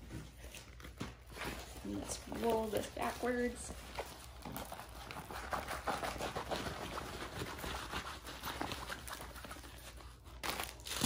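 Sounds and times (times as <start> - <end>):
plastic film crinkling: 0.5 - 7.6, 8.2 - 11.0.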